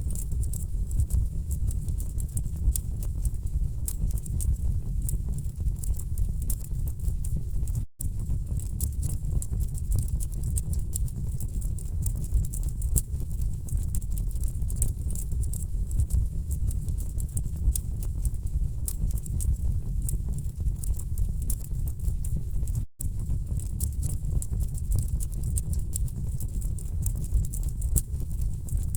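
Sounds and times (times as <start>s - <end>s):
low rumble of flame: 0.0s - 28.9s.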